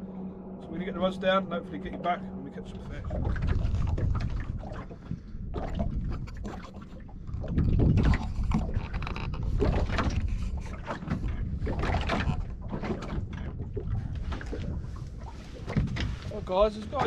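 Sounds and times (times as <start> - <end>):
wind on microphone: 2.6 - 17.0
water against boat hull: 2.7 - 17.0
knocks and splashes: 3.0 - 17.0.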